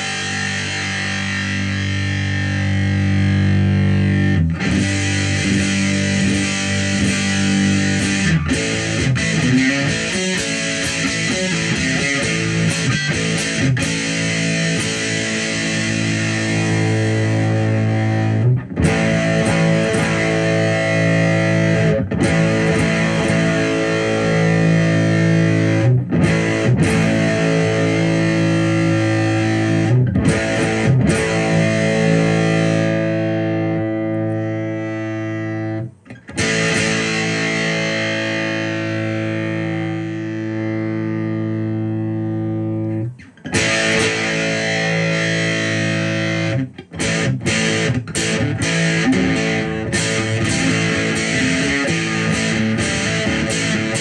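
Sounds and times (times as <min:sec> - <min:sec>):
overdriven electric guitar chords: 0:00.0 - 0:54.0.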